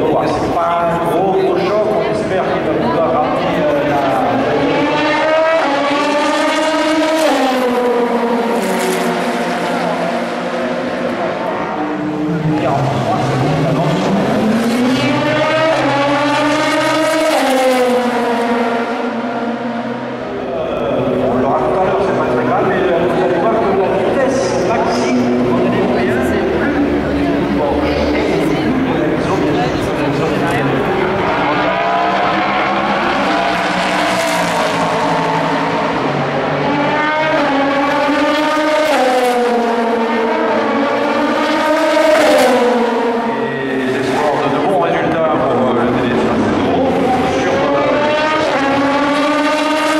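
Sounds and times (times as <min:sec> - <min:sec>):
racing car passing at high revs: 0:00.0 - 0:49.9.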